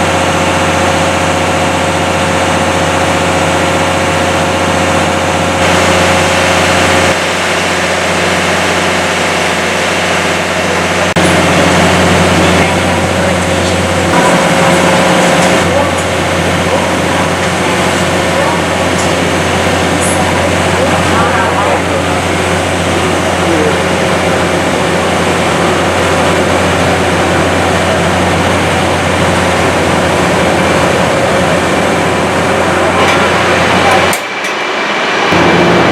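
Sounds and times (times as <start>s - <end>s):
locomotive humming: 0.0s - 35.9s.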